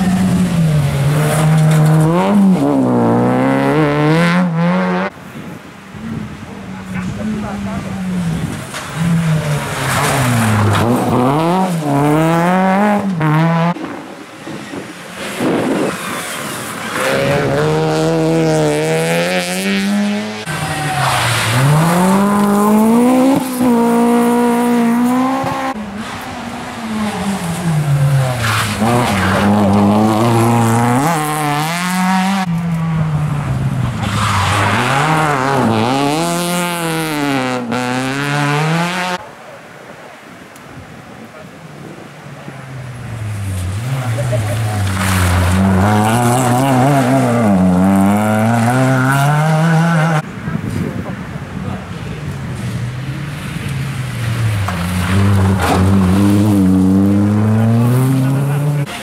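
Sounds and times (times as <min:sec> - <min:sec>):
rally car engines revving: 0:00.0 - 0:05.2, 0:06.0 - 0:39.3, 0:41.4 - 0:59.0.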